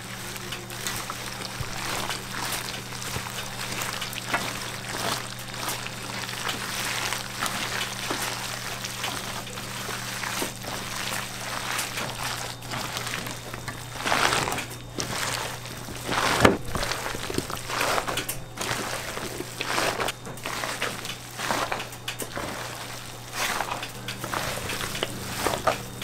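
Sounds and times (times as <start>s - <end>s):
hands squelching wet food mixture: 0.0s - 26.0s.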